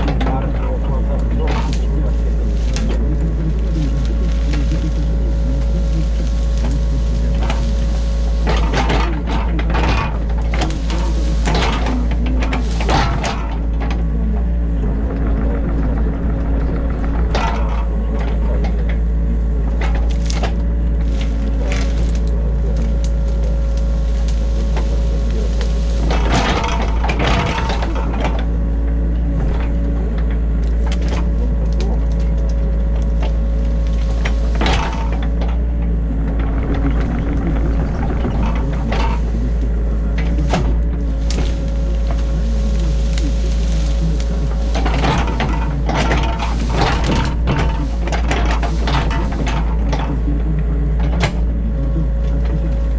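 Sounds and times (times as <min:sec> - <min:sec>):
excavator engine hum: 0:00.0 - 0:52.9
faint steady whine: 0:00.0 - 0:52.9
knocks and crunches: 0:00.0 - 0:52.9.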